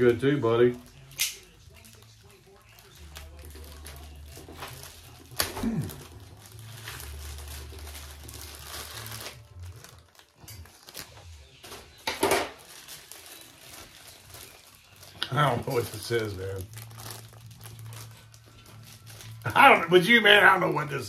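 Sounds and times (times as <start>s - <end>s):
packing bag crinkling: 0.0s - 21.0s.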